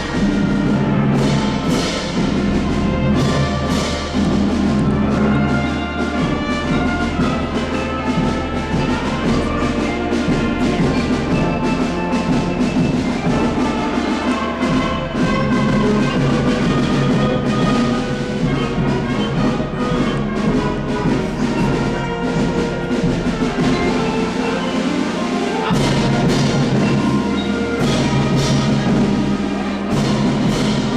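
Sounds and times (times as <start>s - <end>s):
orchestral brass chords: 0.0s - 30.9s
timpani strokes: 0.0s - 30.9s.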